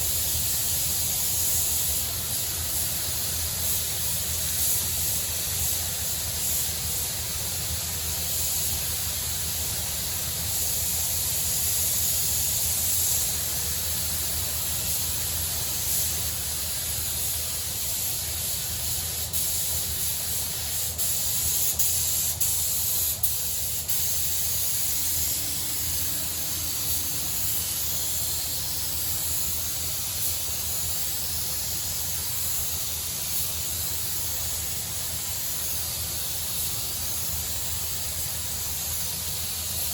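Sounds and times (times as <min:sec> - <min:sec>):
paint spray gun hissing: 0:00.0 - 0:39.9.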